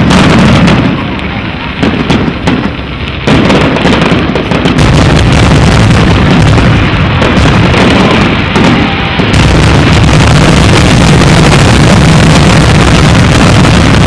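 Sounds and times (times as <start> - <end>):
fireworks booming and crackling: 0.0 - 14.0.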